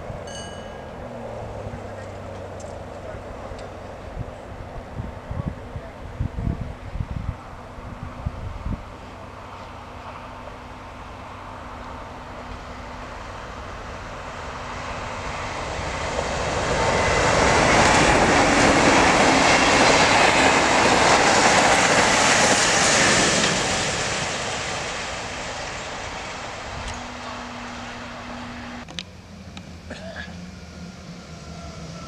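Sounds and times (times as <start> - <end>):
electric train passing at speed: 0.0 - 32.0.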